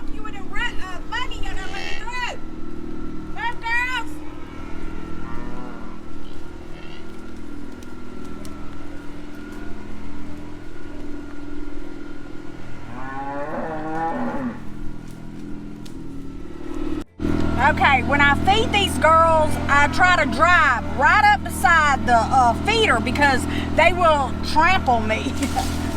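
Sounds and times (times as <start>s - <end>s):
vehicle engine running: 0.0s - 25.9s
cows mooing: 0.4s - 25.9s.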